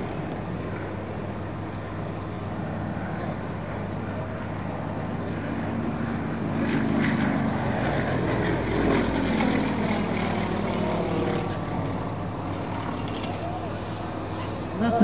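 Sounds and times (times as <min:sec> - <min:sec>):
propeller planes droning by: 0:00.0 - 0:15.0.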